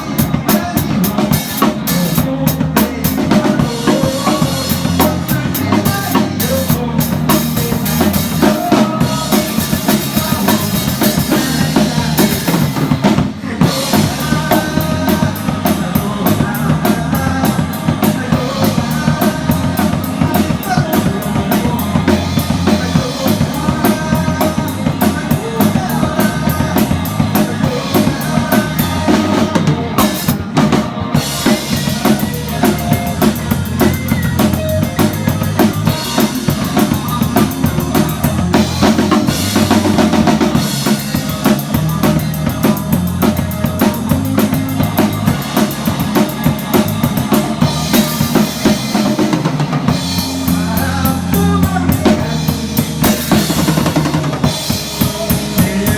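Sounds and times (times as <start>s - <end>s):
drum kit hits: 0.0s - 55.9s
live band playing: 0.0s - 55.9s.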